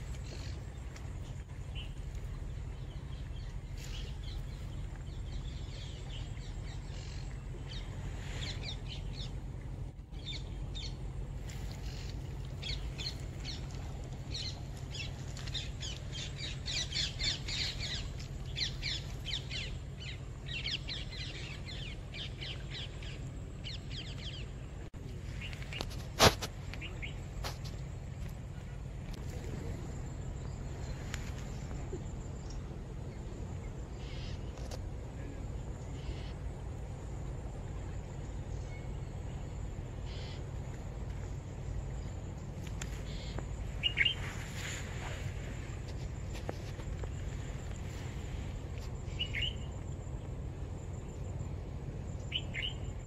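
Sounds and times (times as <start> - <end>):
low rumble: 0.0 - 53.0
small birds chirping: 0.0 - 53.0.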